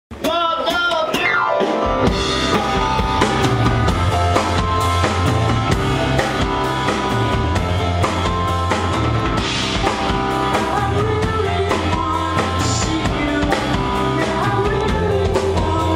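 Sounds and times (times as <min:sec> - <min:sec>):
rock band music: 0:00.1 - 0:15.9.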